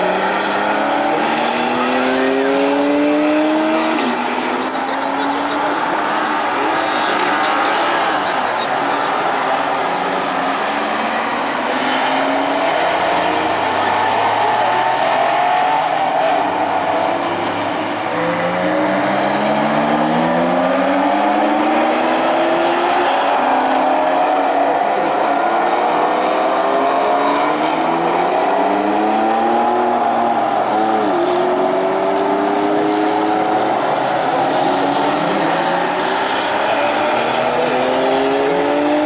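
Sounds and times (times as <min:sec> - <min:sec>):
car engines accelerating past: 0:00.0 - 0:39.0.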